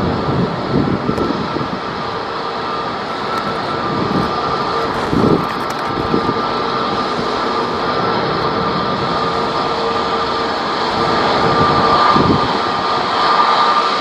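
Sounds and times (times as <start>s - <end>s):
distant jet engines roaring: 0.0s - 14.0s
heavy rain: 0.0s - 14.0s
wind buffeting microphone: 0.0s - 14.0s.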